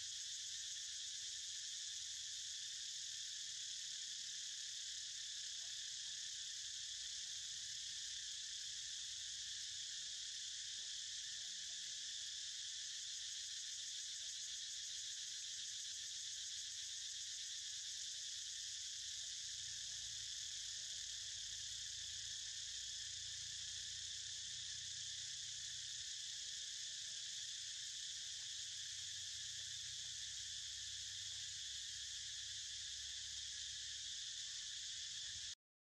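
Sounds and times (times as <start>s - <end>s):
insect chorus drone: 0.0s - 35.6s.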